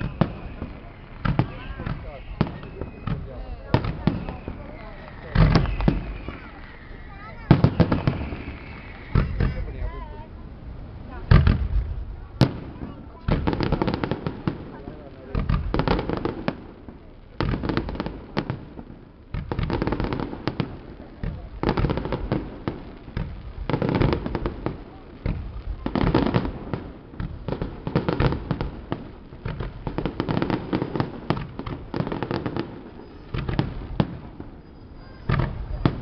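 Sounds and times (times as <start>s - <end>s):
fireworks bursts and bangs: 0.0s - 36.0s.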